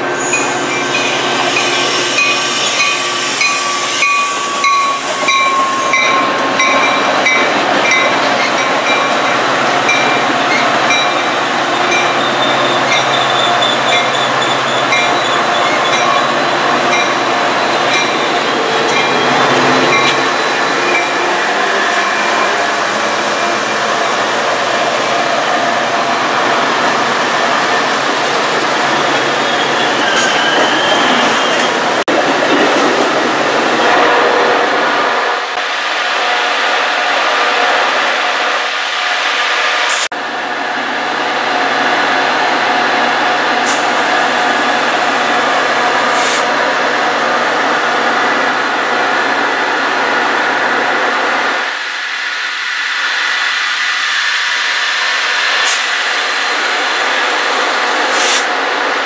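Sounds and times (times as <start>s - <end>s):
diesel locomotive engine hum: 0.0s - 59.0s
train coaches rolling past: 0.0s - 59.0s.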